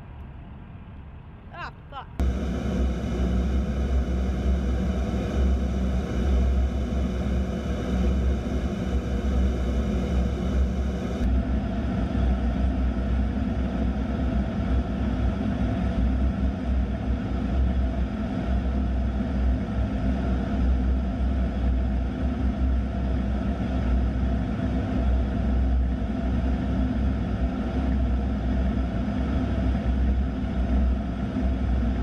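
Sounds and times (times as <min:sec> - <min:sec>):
jet engine rumble in cockpit: 0:00.0 - 0:32.0
steady whine: 0:01.6 - 0:32.0.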